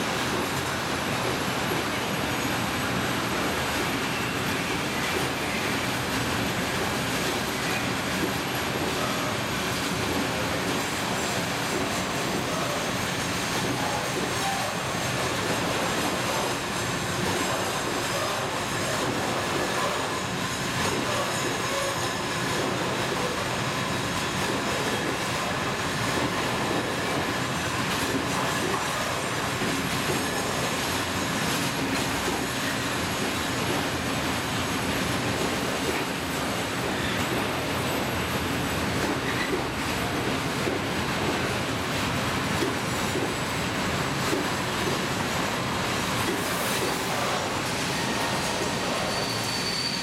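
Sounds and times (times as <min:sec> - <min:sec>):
train wheels on rails: 0:00.0 - 0:50.0.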